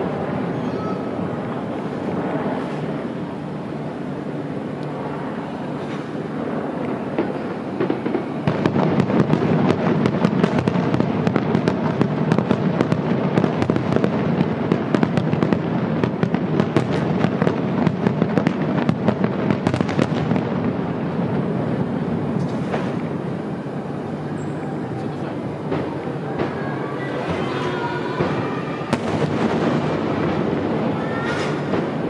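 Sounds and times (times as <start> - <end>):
fireworks bangs and crackles: 0.0 - 32.0
fireworks booms: 5.4 - 32.0.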